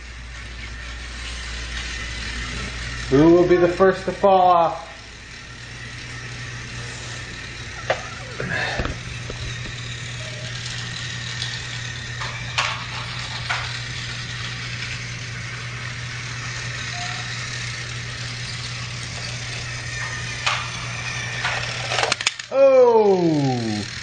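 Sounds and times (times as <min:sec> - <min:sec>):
toy train motors humming and rattling: 0:00.0 - 0:24.0.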